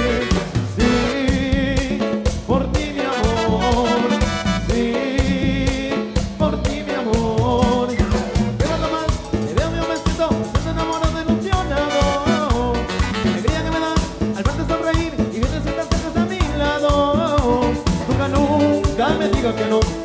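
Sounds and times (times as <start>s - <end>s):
live cumbia band playing: 0.0s - 20.0s.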